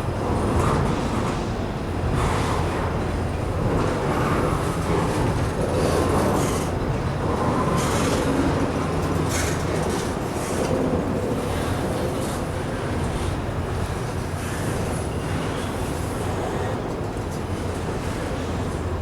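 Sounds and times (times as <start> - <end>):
freight train rumbling past: 0.0 - 19.0
wheels clicking on rail joints: 0.0 - 19.0.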